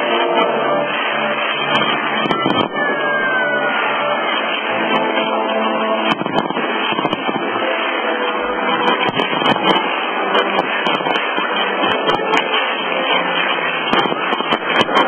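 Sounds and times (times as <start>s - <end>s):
fireworks popping and crackling: 0.0s - 15.0s
music playing: 0.0s - 15.0s.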